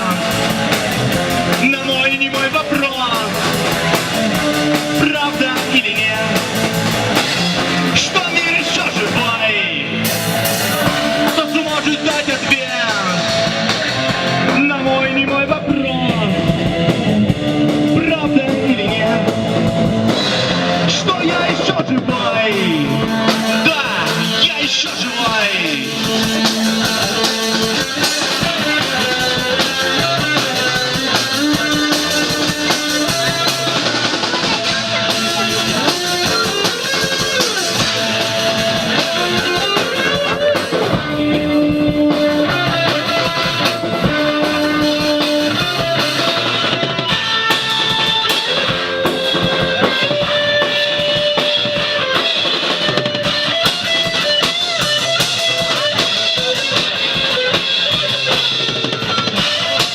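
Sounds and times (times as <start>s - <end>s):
instrumental rock music: 0.0s - 59.9s.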